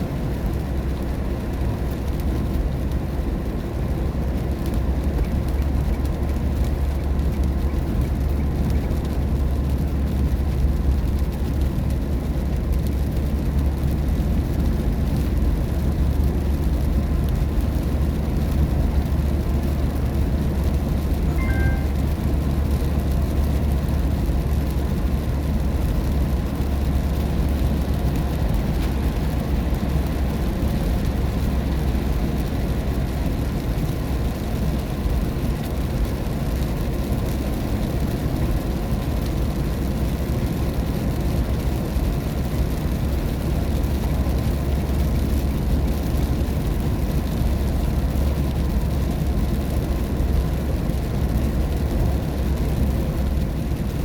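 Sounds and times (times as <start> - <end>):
rain hiss on wet road: 0.0 - 54.0.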